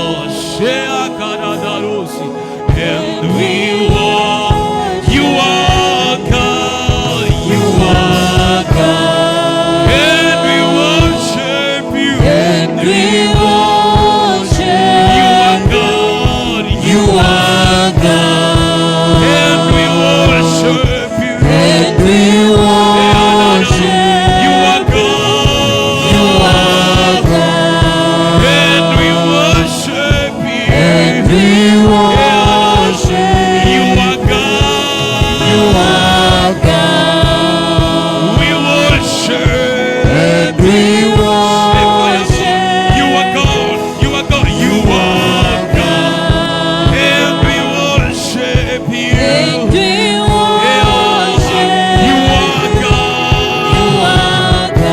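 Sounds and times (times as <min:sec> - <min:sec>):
gospel worship music: 0:00.0 - 0:54.9.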